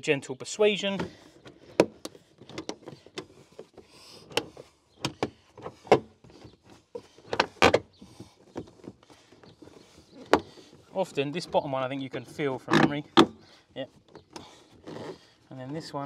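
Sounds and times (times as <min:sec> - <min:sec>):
plastic rustling and creaking: 0:00.8 - 0:16.0.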